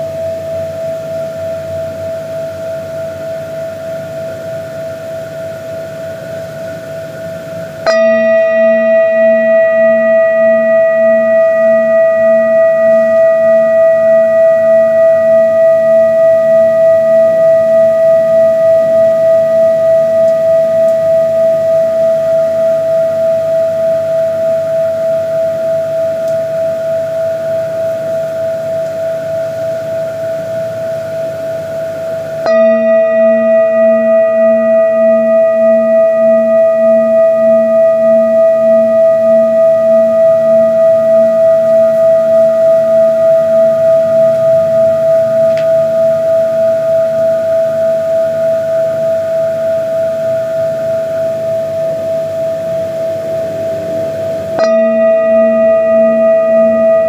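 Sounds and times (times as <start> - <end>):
wavering ringing tone: 0.0 - 57.0.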